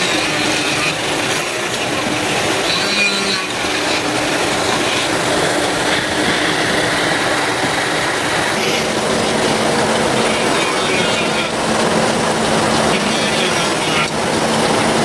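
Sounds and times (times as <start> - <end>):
woodworking machine cutting wood: 0.0 - 15.0.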